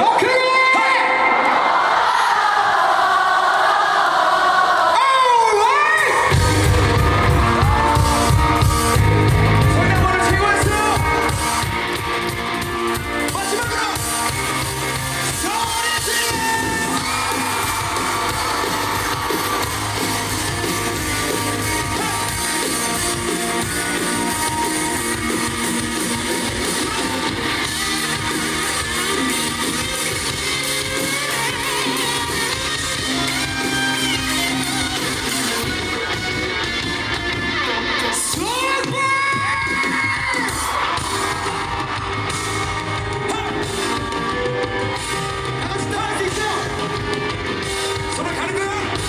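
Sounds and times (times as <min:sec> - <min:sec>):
fans shouting and screaming: 0:00.0 - 0:49.0
live rock band playing: 0:06.2 - 0:49.0.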